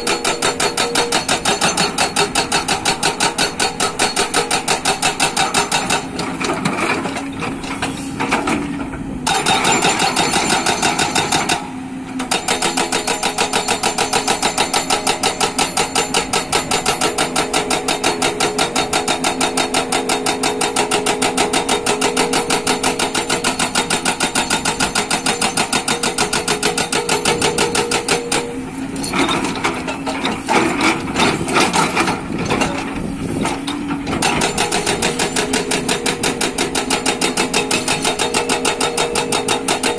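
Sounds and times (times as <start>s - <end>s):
hydraulic breaker hammering rock: 0.0s - 39.9s.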